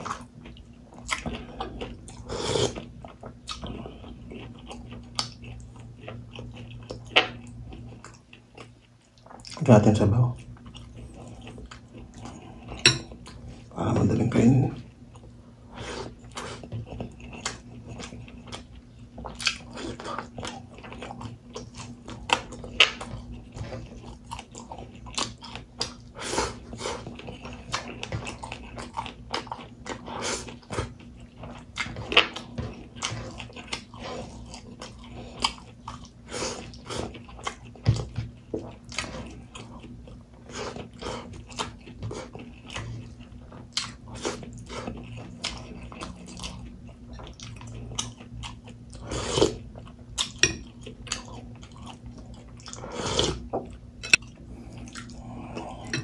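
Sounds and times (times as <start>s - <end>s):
person chewing with mouth clicks: 0.0s - 9.6s, 16.0s - 56.0s
faint steady hum: 0.0s - 56.0s.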